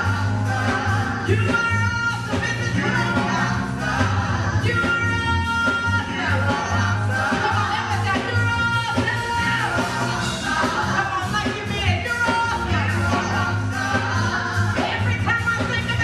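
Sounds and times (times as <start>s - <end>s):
backing singers: 0.0s - 16.0s
band accompaniment: 0.0s - 16.0s
steady bass line: 0.0s - 16.0s.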